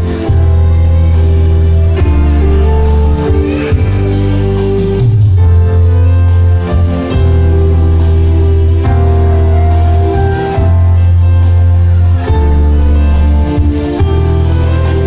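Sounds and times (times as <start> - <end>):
digital piano: 0.0 - 15.0
electronic keyboard ballad: 0.0 - 15.0.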